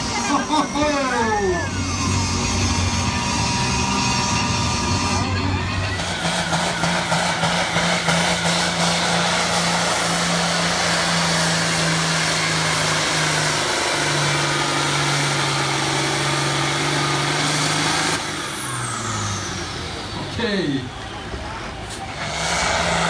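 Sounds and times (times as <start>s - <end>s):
tractor engine under load: 0.0s - 23.0s.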